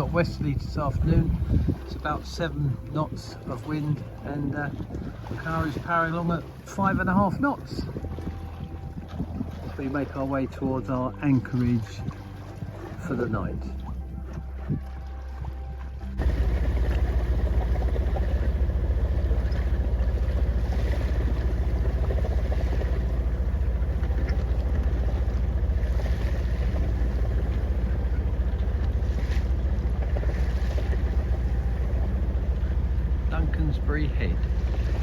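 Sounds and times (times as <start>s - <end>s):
boat engine rumbling: 0.0s - 35.0s
water noise: 0.0s - 35.0s
wind: 0.0s - 35.0s.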